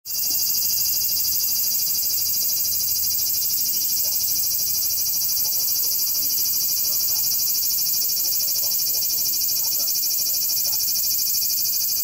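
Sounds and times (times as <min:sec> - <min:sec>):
cicadas singing: 0:00.1 - 0:12.0.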